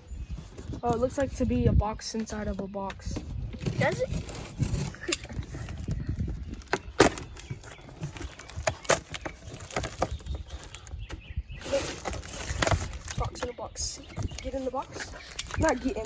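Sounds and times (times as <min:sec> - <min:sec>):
cardboard boxes being handled: 0:00.1 - 0:16.0.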